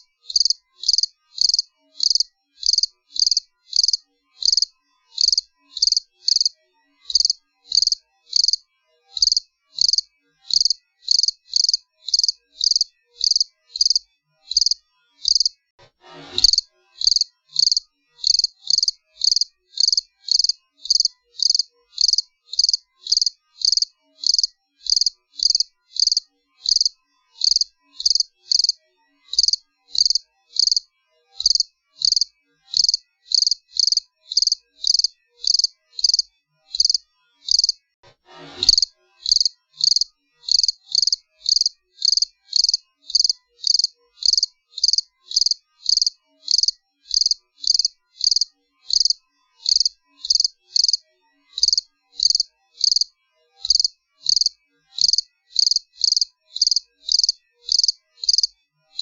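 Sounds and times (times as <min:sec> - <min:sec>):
cricket chirping: 0:00.0 - 0:06.5, 0:07.1 - 0:08.6, 0:09.2 - 0:15.5, 0:16.4 - 0:30.8, 0:31.4 - 0:37.8, 0:38.8 - 0:51.0, 0:51.6 - 0:59.0.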